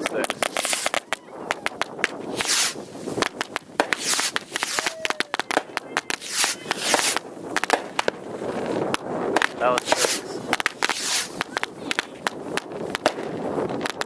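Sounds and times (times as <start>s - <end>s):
firecrackers popping: 0.0s - 14.0s
hissing crackle: 0.0s - 14.0s.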